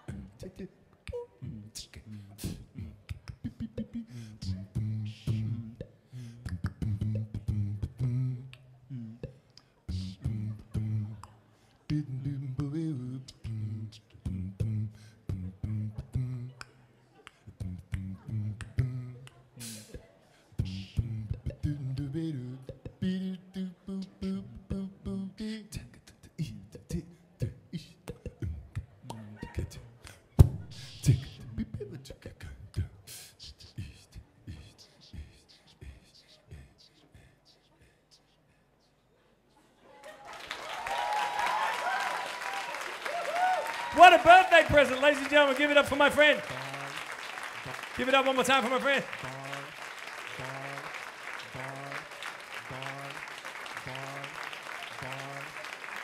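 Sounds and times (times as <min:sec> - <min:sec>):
hummed vocal bass line: 0:00.0 - 0:36.9, 0:46.4 - 0:48.1, 0:49.1 - 0:55.6
beatboxing: 0:00.0 - 0:39.0, 0:43.9 - 0:56.0.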